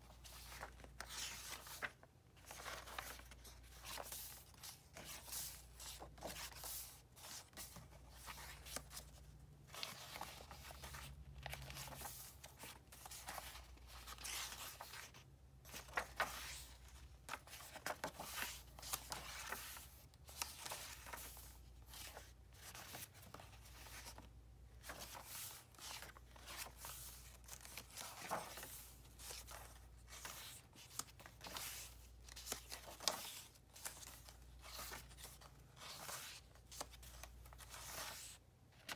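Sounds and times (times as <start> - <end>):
paper pages turning: 0.1 - 38.9.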